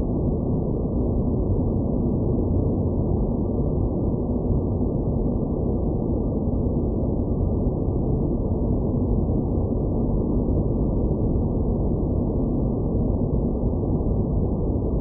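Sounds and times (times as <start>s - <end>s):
dense low noise ambience: 0.0s - 15.0s.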